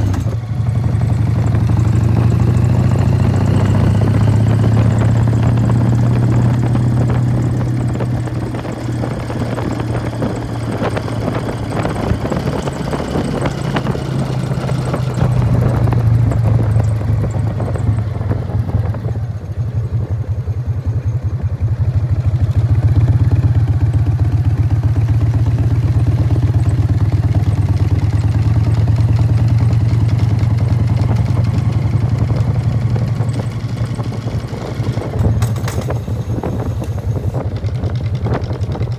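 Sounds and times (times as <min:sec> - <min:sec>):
motorcycle exhaust while riding: 0:00.0 - 0:38.9.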